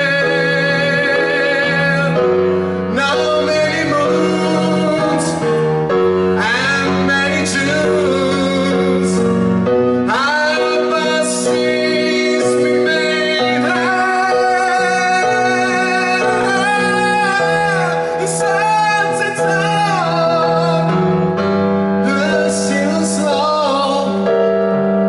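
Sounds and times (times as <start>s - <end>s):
man singing a slow ballad: 0.0s - 5.6s, 6.2s - 24.4s
sustained instrumental backing: 0.0s - 25.0s.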